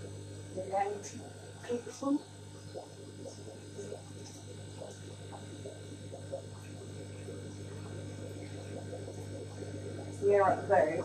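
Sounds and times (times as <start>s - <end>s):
aquarium pump hum: 0.0s - 11.0s
water gurgling and bubbling: 0.0s - 11.0s.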